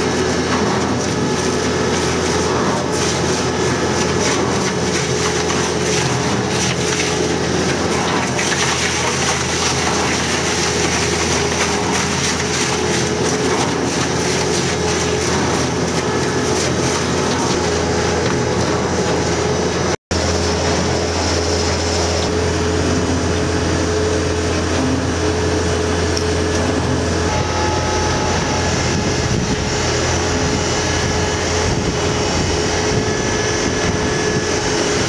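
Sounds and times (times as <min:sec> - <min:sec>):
tire shredder running: 0:00.0 - 0:35.0.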